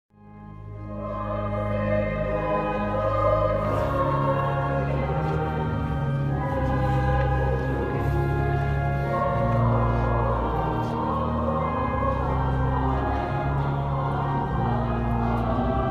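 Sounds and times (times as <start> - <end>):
long held bass notes: 0.2 - 15.9
choir singing: 0.6 - 15.9.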